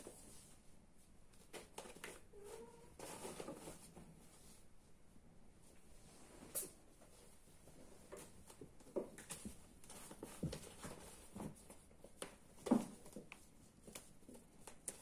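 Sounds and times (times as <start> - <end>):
kittens thumping and scuffling: 0.0 - 4.7, 6.3 - 15.0.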